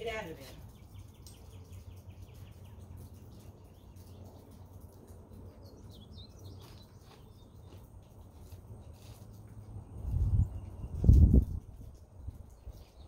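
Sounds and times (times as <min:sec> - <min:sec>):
bird chirping: 0:00.6 - 0:13.0.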